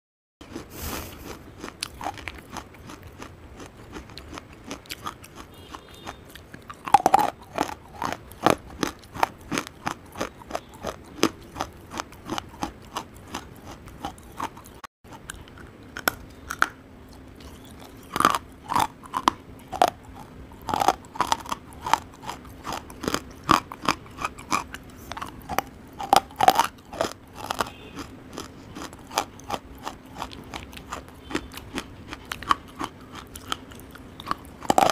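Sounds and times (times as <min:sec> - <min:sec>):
crunchy chewing: 0:00.4 - 0:34.9.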